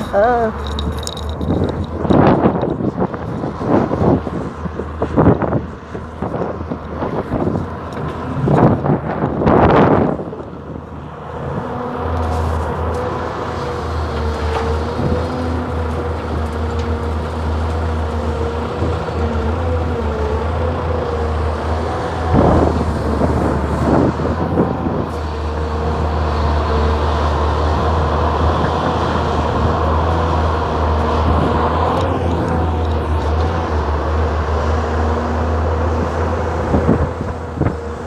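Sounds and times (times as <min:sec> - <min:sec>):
excavator diesel engine running: 0:00.0 - 0:38.0
loud rough noise: 0:00.0 - 0:38.0.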